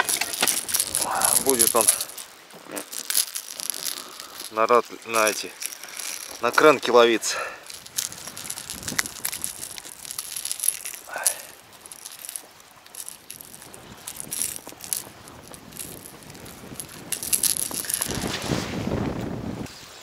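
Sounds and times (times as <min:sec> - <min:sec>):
fishing lure clicking and rattling: 0:00.0 - 0:18.4
rustle: 0:00.0 - 0:20.0.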